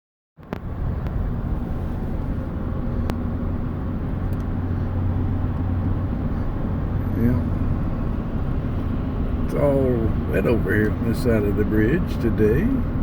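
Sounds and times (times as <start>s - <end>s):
car engine running: 0.4s - 13.0s.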